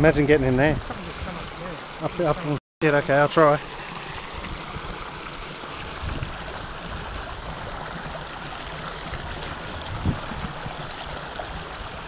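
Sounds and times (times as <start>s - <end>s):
creek running over rocks: 0.0s - 12.0s.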